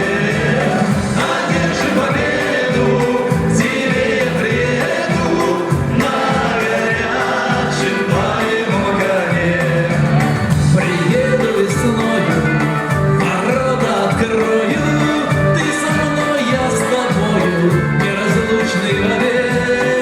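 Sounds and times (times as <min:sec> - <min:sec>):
band music with pulsing bass: 0:00.0 - 0:20.0
person singing: 0:00.0 - 0:20.0.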